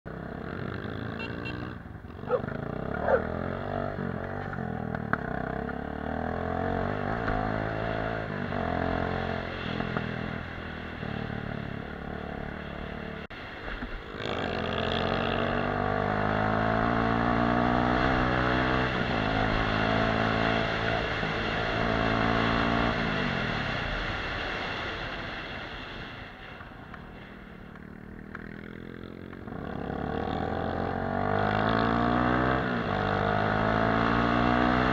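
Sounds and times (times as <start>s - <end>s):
motorcycle engine revving: 0.1s - 13.3s, 14.0s - 25.0s, 27.5s - 34.9s.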